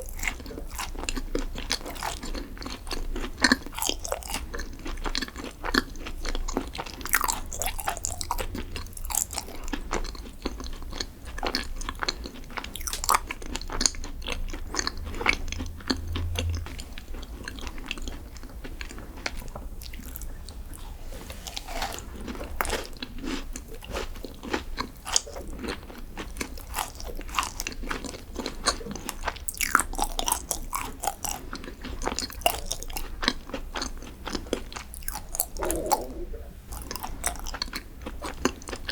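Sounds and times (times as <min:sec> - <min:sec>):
crunching and chewing: 0:00.0 - 0:38.9.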